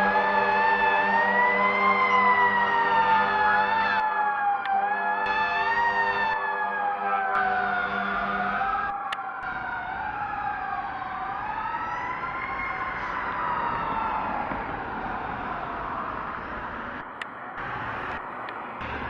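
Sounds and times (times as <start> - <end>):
fire engine siren wailing: 0.0 - 19.0.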